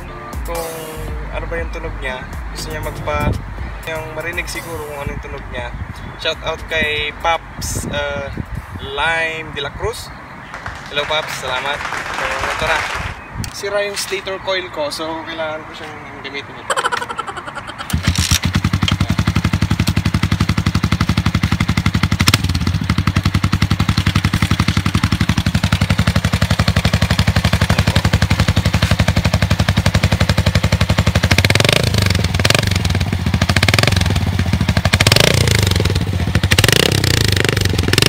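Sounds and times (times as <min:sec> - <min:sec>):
motorcycle engine idling and revving: 0:00.0 - 0:09.4, 0:10.2 - 0:13.4, 0:16.6 - 0:38.0.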